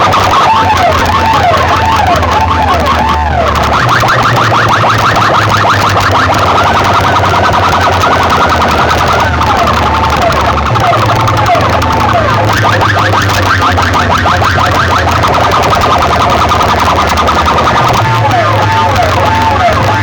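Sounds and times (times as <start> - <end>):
deep bass hum: 0.0 - 20.0
electronic siren effects: 0.0 - 20.0.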